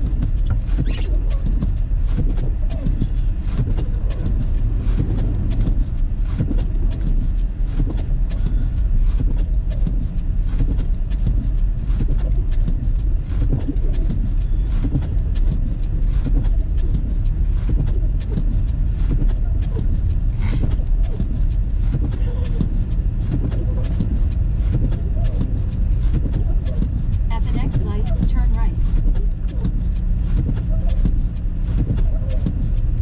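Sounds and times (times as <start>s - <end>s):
car road rumble on snow: 0.0s - 33.0s
ticks and thumps: 0.0s - 33.0s.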